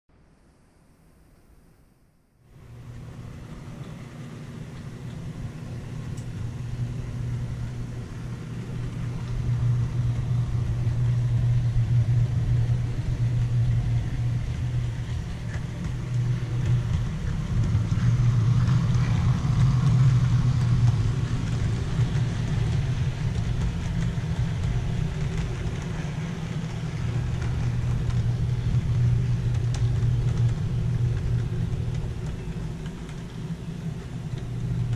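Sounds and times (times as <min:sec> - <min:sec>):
model train motor hum: 0:02.6 - 0:34.9
wheel rumble: 0:02.6 - 0:34.9.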